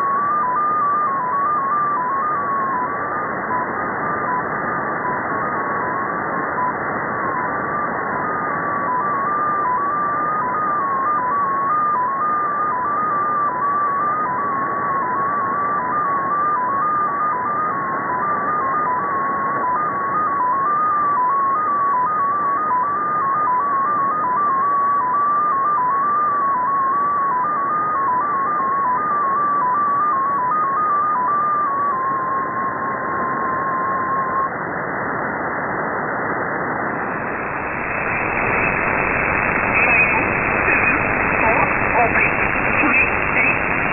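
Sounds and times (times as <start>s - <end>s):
receiver hiss: 0.0s - 43.9s
short data tones hopping in pitch: 0.0s - 43.9s.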